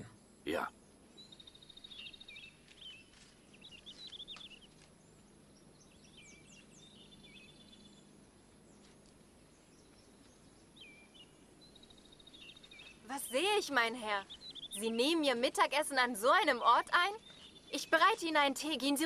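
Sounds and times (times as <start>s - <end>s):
outdoor background hiss: 0.0s - 19.0s
small birds chirping and trilling: 0.0s - 19.0s.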